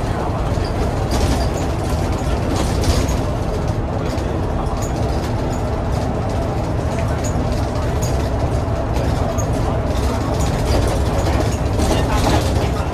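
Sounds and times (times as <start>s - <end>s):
bus diesel engine rumbling: 0.0s - 12.9s
road noise: 0.0s - 12.9s.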